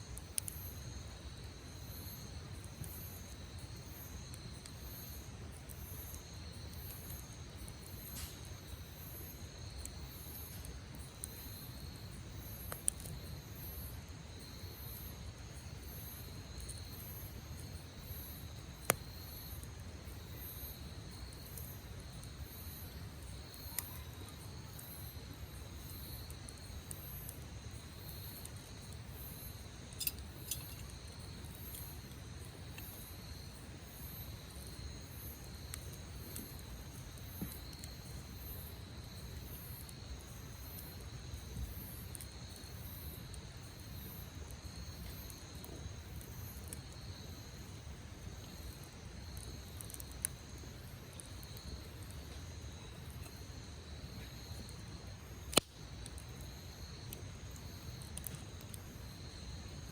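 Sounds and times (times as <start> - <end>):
campfire pops: 0.0 - 59.9
crickets chirping: 0.0 - 59.9.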